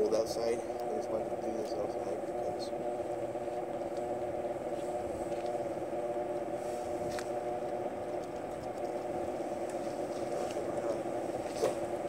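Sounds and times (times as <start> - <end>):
box fan humming: 0.0 - 12.0.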